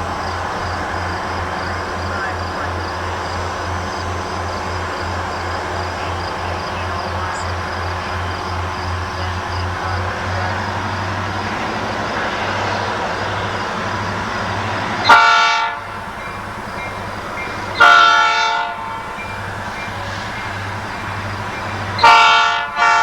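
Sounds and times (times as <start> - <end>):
train air horn blasts: 0.0 - 23.0
train rumbling: 0.0 - 23.0.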